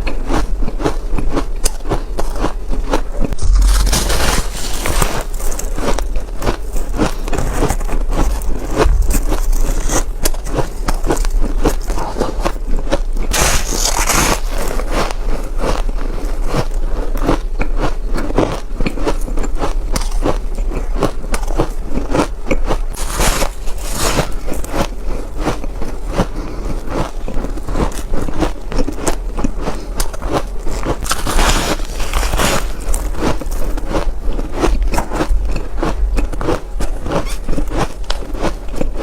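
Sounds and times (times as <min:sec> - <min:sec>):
chewing crunchy ice: 0:00.0 - 0:39.0.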